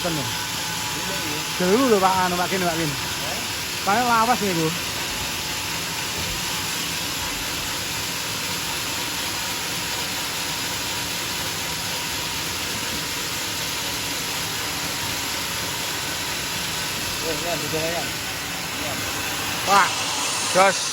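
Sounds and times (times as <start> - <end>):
sawmill running: 0.0 - 20.9.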